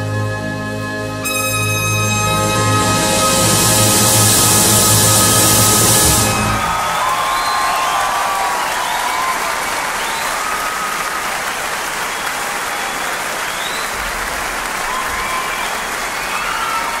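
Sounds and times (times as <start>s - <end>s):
crowd applauding: 1.6s - 17.0s.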